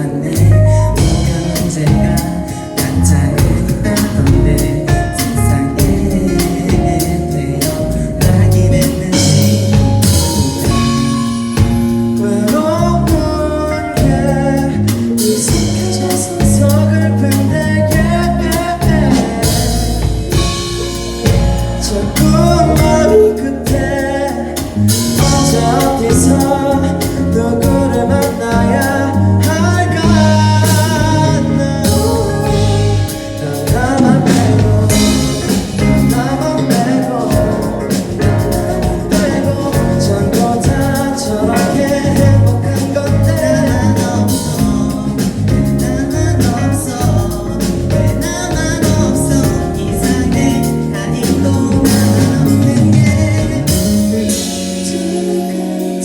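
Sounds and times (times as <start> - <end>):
band with drums: 0.0 - 56.0
pop ballad singing: 0.0 - 56.0.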